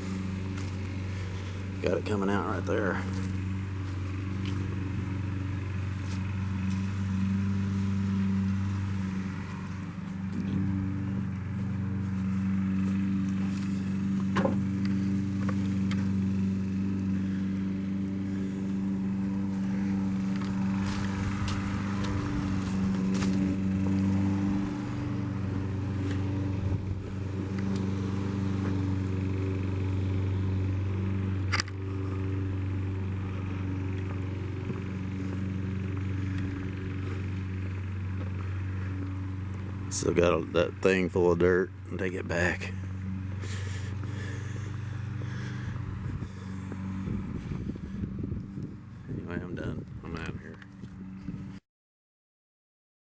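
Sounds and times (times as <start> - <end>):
backhoe engine idling: 0.0 - 51.5.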